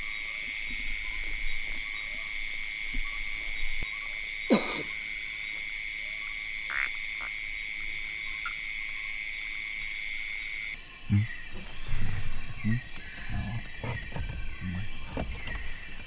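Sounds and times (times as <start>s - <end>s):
frog calls: 0.0s - 16.0s
high insect drone: 0.0s - 16.0s.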